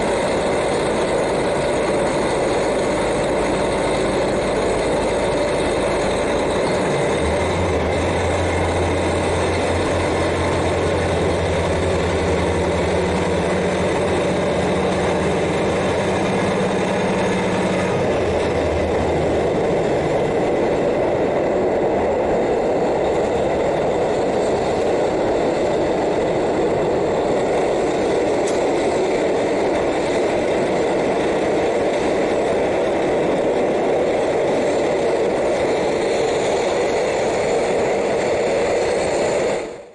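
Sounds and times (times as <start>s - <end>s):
diesel railcar engine running: 0.0s - 39.9s.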